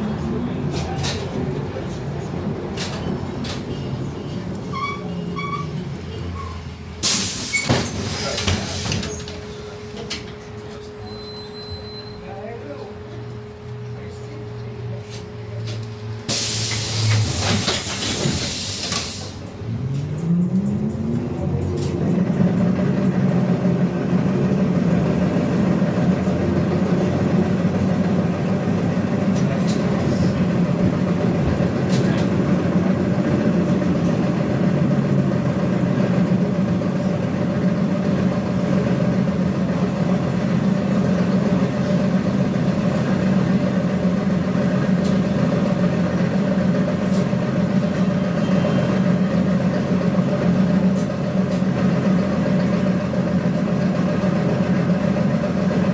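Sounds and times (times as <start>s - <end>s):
road and tyre noise: 0.0s - 55.9s
trolleybus traction hum: 0.0s - 55.9s.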